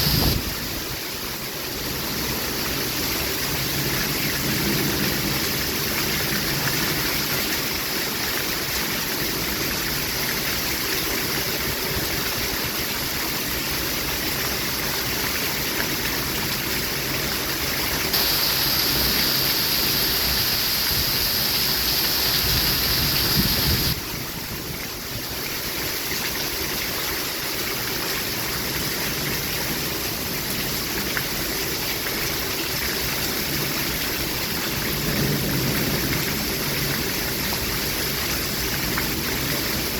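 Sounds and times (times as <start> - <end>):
falling rain: 0.0 - 39.9.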